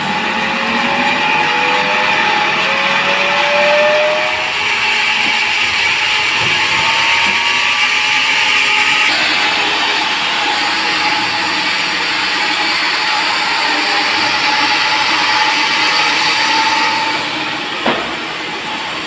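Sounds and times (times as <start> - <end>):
sawmill saw cutting log: 0.0 - 19.0.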